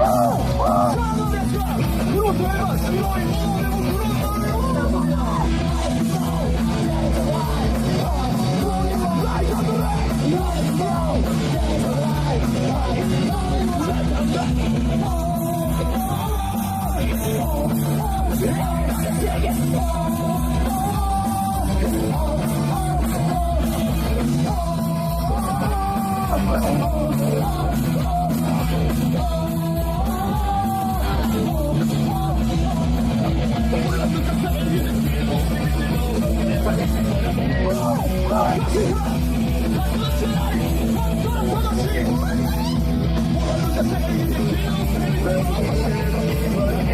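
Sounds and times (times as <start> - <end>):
electric guitar: 0.0 - 46.9
person shouting singing: 0.0 - 46.9
punk rock band playing: 0.0 - 46.9
steady drum beat: 0.0 - 46.9.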